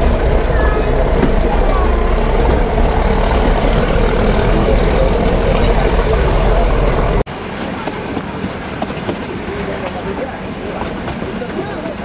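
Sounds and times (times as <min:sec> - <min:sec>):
train carriage rumbling on track: 0:00.0 - 0:12.0.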